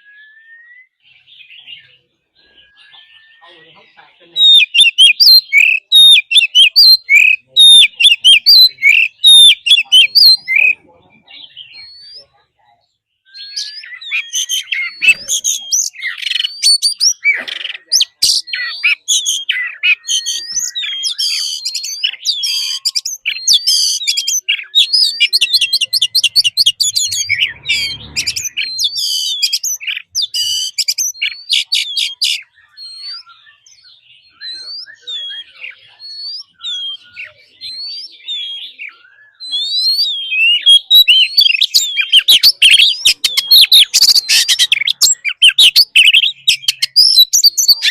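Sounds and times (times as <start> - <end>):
bird singing whistles and trills: 0.0 - 12.4, 13.0 - 47.9.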